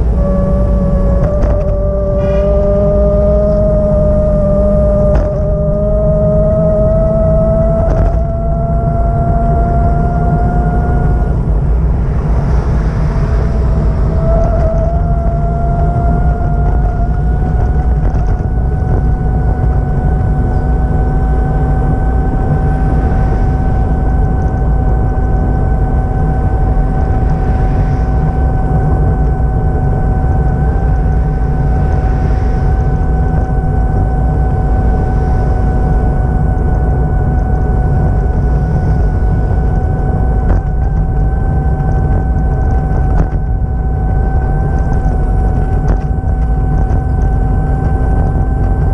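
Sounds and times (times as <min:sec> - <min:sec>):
vehicle engine rumble with whine: 0:00.0 - 0:48.9.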